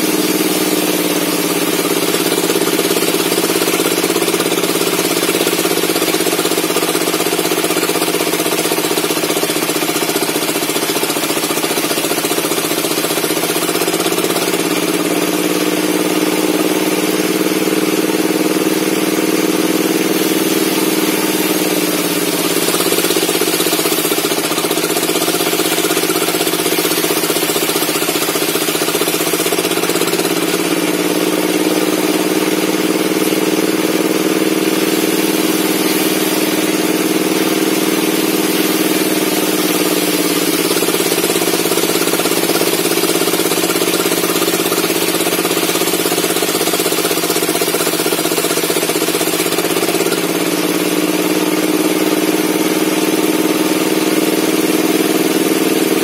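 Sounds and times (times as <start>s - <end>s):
circular saw cutting wood: 0.0s - 56.0s.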